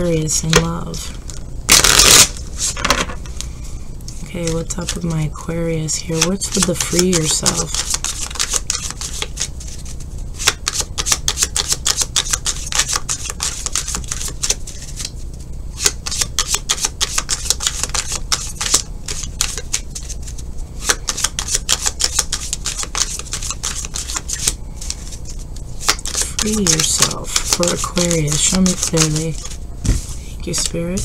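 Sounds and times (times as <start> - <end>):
cards being shuffled: 1.7 - 3.2, 4.2 - 5.1, 6.0 - 30.8.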